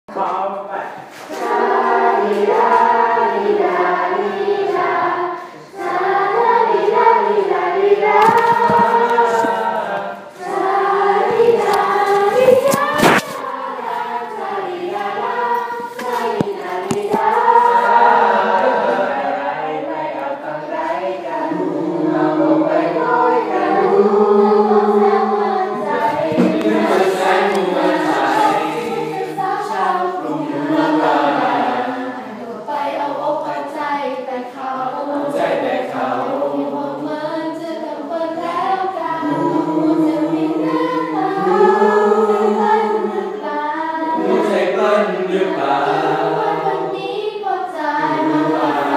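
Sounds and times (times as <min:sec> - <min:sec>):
choir singing: 0:01.1 - 0:48.9.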